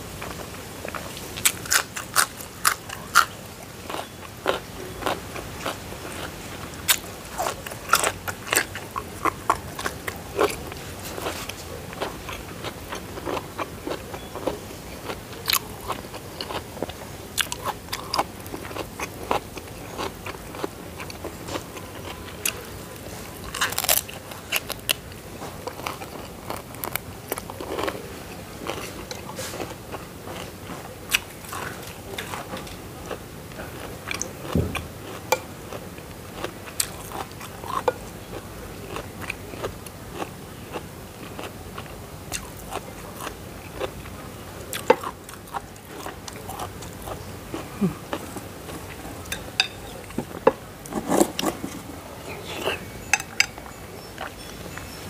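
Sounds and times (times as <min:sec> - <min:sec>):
person chewing and crunching: 0:00.2 - 0:55.0.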